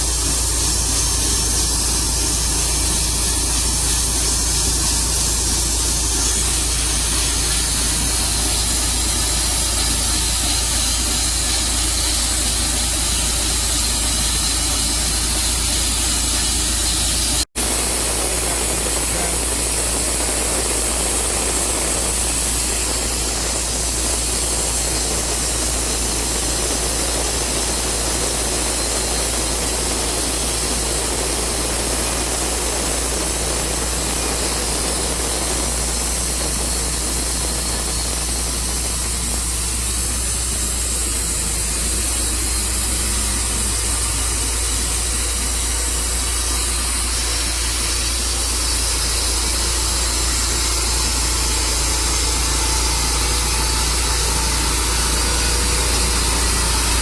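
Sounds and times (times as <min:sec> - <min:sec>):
sawmill running: 0:00.0 - 0:57.0.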